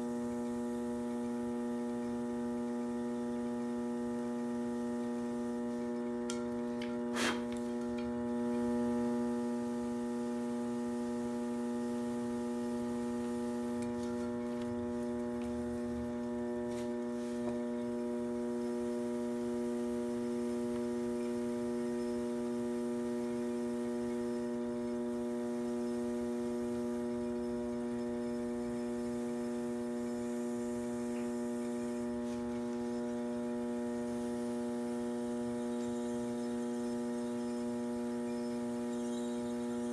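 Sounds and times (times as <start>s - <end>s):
pottery wheel motor humming: 0.0s - 39.9s.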